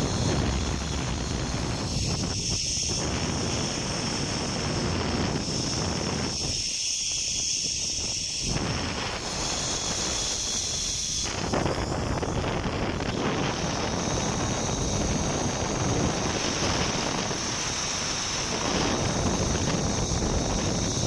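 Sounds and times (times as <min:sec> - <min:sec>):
wind buffeting microphone: 0:00.0 - 0:06.8, 0:07.4 - 0:21.0.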